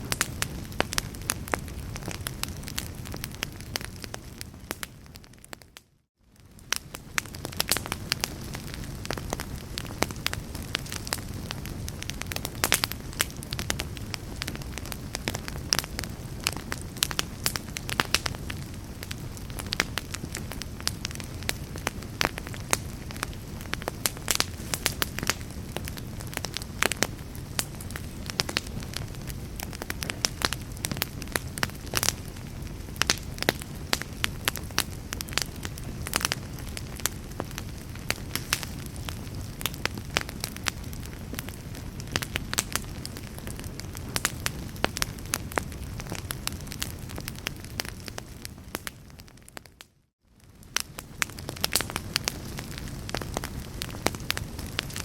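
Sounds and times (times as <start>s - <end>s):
logs crackling in a fireplace: 0.0s - 49.8s, 50.4s - 55.0s
low rumble of flames: 0.0s - 55.0s.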